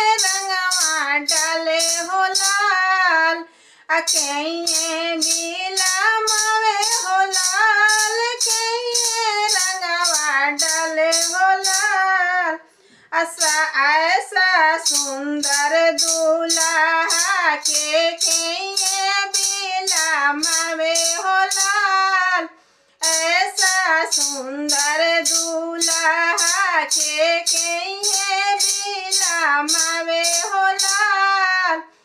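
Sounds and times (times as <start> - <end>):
jingling percussion beat: 0.0 - 3.0, 4.0 - 12.2, 13.4 - 22.2, 23.0 - 31.5
woman singing: 0.0 - 12.6, 13.2 - 31.9.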